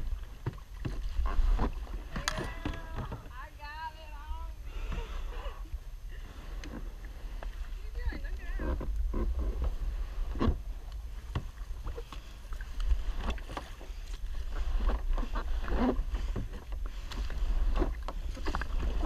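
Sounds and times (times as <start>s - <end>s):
paddle knocking and scraping: 0.0s - 19.0s.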